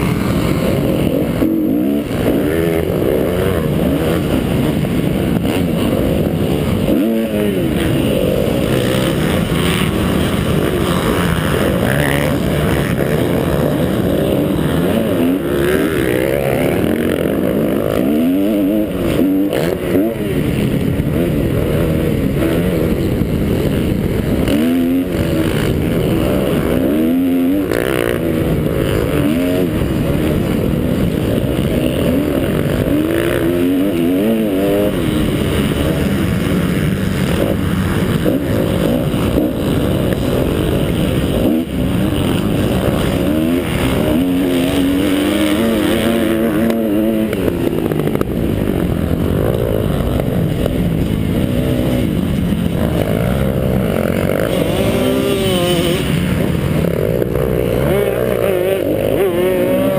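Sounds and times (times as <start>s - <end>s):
dirt bike engine revving: 0.0s - 59.9s
other dirt bikes running: 0.0s - 59.9s.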